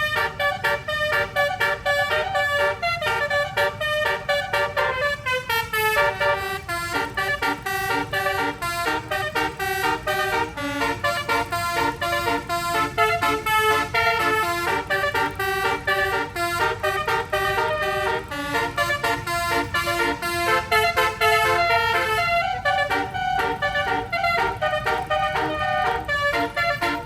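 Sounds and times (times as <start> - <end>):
air horn playing melody: 0.0 - 27.0
steady low rumble: 0.0 - 27.0.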